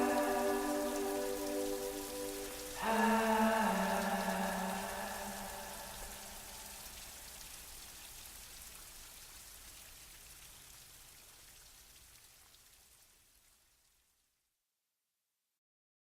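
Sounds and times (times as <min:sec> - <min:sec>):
rain falling: 0:00.0 - 0:14.2.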